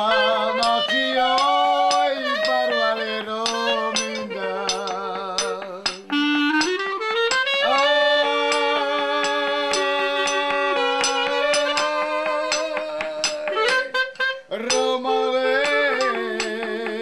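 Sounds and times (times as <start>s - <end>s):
man singing: 0.0s - 6.8s, 7.6s - 17.0s
clarinet playing: 0.0s - 17.0s
sharp tapped beat: 0.6s - 2.8s, 3.4s - 17.0s.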